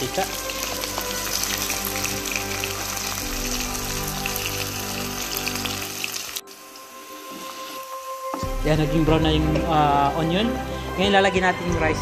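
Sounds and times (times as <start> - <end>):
onions sizzling in hot oil: 0.0 - 10.0
background music with low notes: 0.0 - 12.0.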